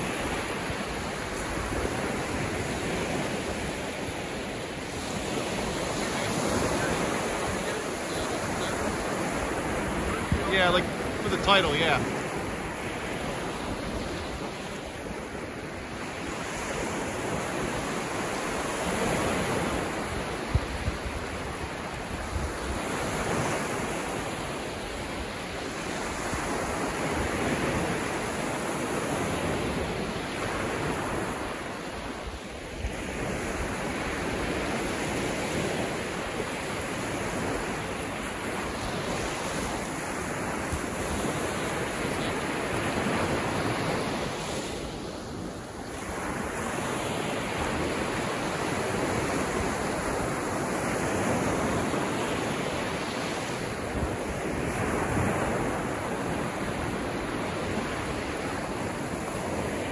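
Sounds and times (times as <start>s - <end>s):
small waves washing up beach: 0.0s - 59.9s.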